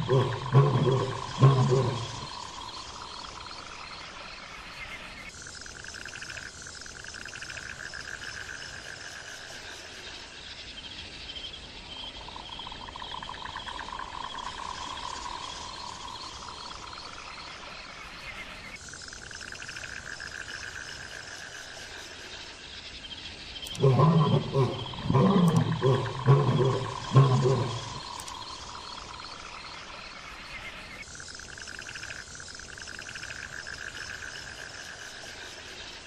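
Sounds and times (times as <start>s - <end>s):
frogs trilling: 0.0s - 36.0s
insects calling: 0.0s - 36.0s.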